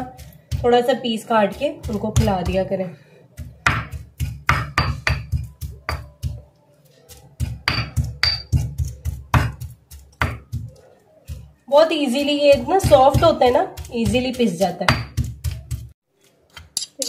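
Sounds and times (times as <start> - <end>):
pestle pounding in stone mortar: 0.0 - 2.7, 3.4 - 6.4, 7.4 - 16.0.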